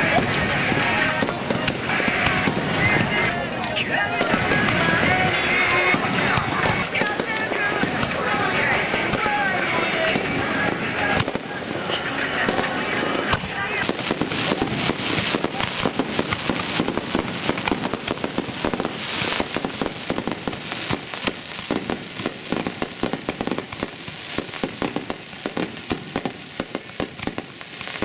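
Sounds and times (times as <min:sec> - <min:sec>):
aerial fireworks bursting: 0:00.0 - 0:28.0.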